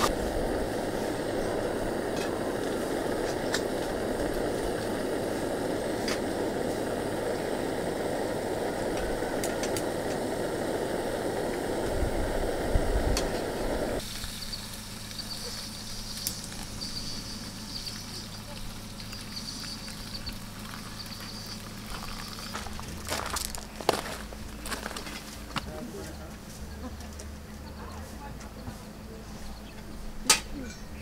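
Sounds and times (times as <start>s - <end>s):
moka pot bubbling: 0.0s - 27.8s.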